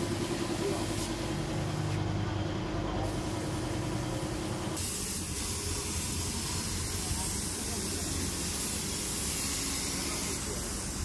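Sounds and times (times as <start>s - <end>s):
mechanical hum with tone: 0.0s - 11.0s.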